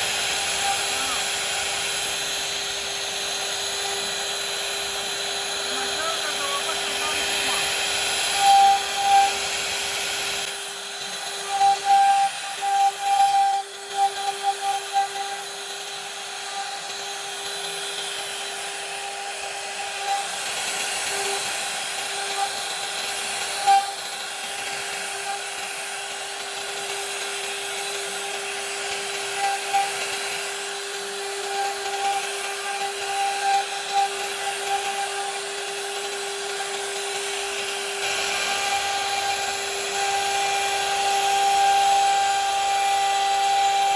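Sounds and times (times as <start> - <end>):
router bit cutting wood: 0.0 - 43.9
router spindle whine: 0.0 - 43.9.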